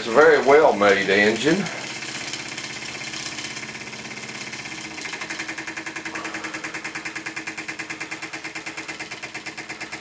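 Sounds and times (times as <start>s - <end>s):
model steam engine puffing and clattering: 0.0s - 10.0s.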